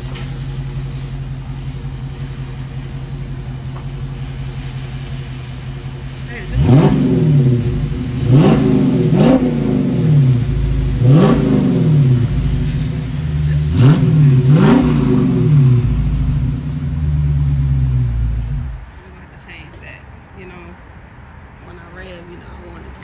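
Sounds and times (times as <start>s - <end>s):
car engine revving from idle: 0.0s - 19.0s.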